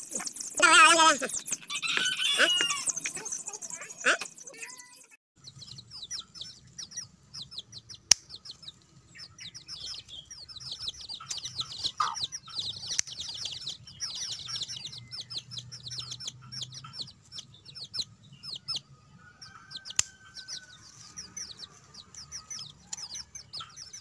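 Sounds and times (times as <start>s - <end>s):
chicks peeping: 0.1s - 24.0s.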